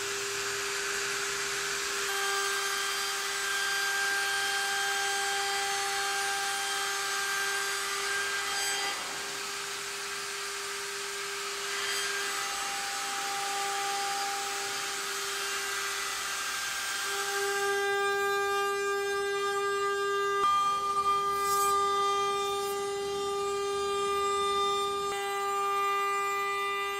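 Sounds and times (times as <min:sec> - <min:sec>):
router bit cutting wood hiss: 0:00.0 - 0:26.9
router spindle high whine: 0:00.0 - 0:26.9.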